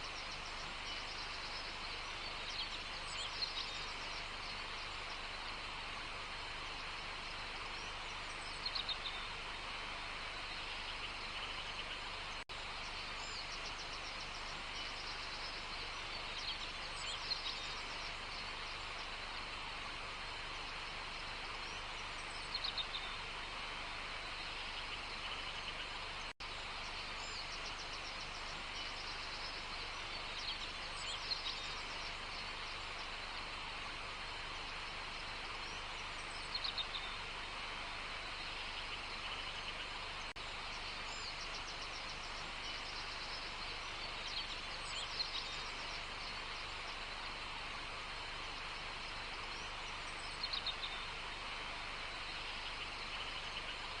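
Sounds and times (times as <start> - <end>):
outdoor background hiss: 0.0 - 54.0.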